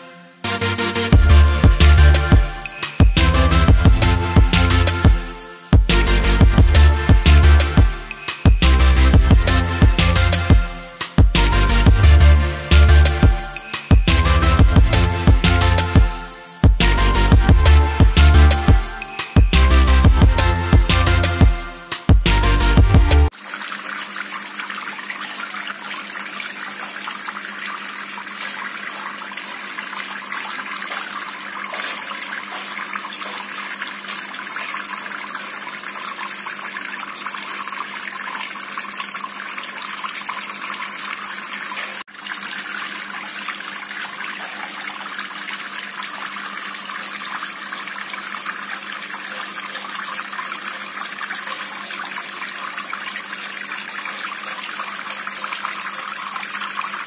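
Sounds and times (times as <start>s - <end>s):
water bubbling from pipe: 1.1s - 57.0s.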